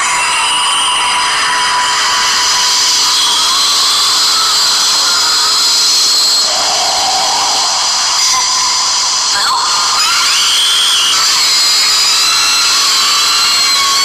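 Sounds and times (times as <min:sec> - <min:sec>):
shrill high whining noise: 0:00.0 - 0:14.0
wavering tone: 0:00.8 - 0:12.2.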